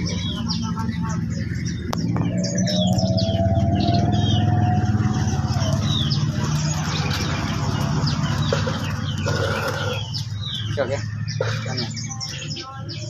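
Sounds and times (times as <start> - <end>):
low engine hum: 0.0 - 13.0
songbirds chirping: 0.0 - 13.0.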